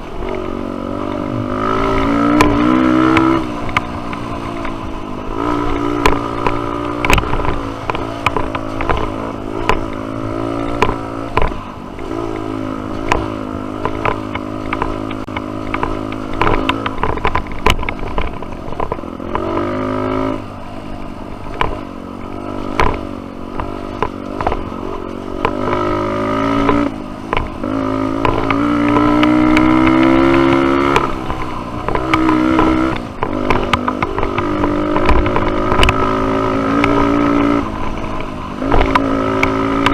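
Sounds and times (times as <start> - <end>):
dirt bike engine revving: 0.0 - 39.9
sharp knocks and clatter: 1.0 - 20.4, 21.4 - 39.9.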